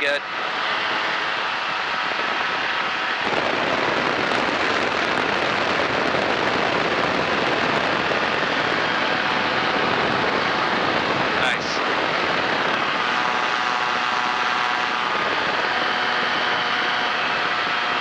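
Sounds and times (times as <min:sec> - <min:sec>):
airplane engine running: 0:00.0 - 0:18.0
wind rushing: 0:00.0 - 0:18.0.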